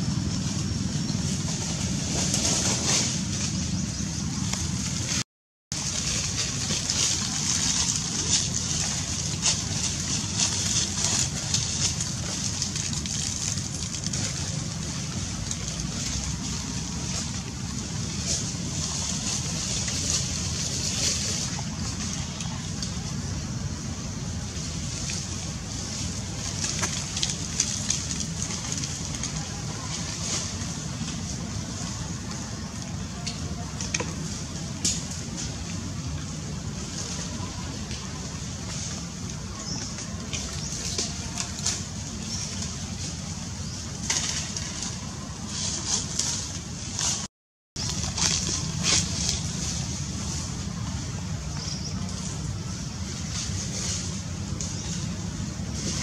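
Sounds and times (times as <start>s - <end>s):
leaves rustling and crackling: 0.0s - 56.0s
steady low rumble: 0.0s - 56.0s.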